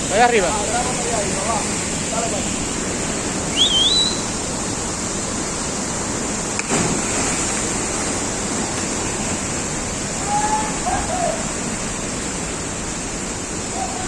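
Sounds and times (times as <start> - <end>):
rushing flowing water: 0.0 - 14.0.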